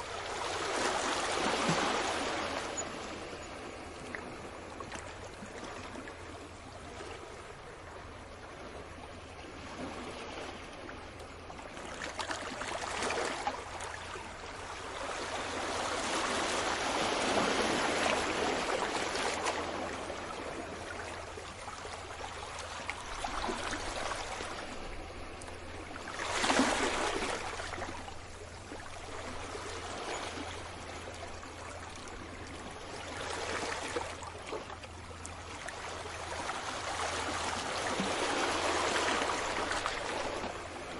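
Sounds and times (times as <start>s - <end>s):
wave splash: 0.0s - 3.3s, 9.5s - 40.9s
small waves washing onto shore: 0.0s - 40.9s.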